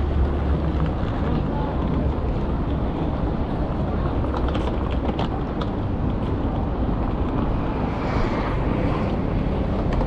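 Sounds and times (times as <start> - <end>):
traffic rumble: 0.0 - 10.0
wind on microphone: 0.0 - 10.0.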